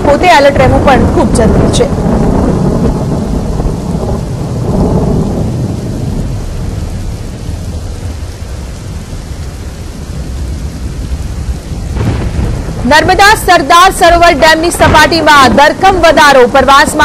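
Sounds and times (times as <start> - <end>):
heavy rain: 0.0 - 17.0
rolling thunder rumble: 0.0 - 17.0.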